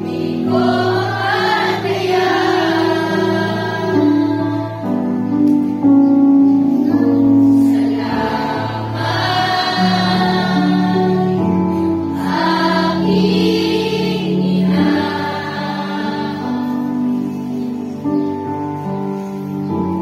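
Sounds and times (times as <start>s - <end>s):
children's choir singing: 0.0s - 5.1s, 7.0s - 18.0s
musical accompaniment: 0.0s - 20.0s.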